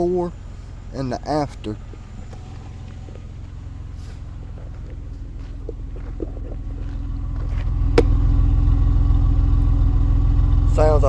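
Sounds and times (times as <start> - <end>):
car exhaust idling: 0.0 - 11.0.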